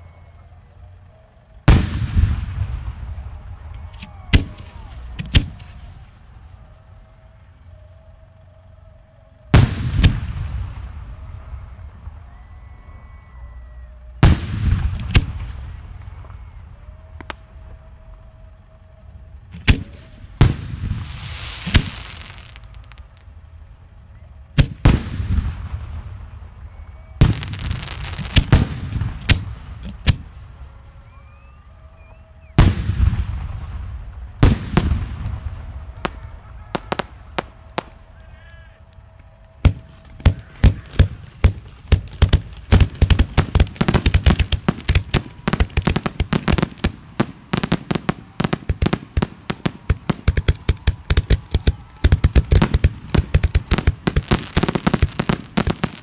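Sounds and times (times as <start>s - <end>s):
rapid barrage of firework reports: 0.0s - 56.0s
firework shells booming: 0.8s - 56.0s.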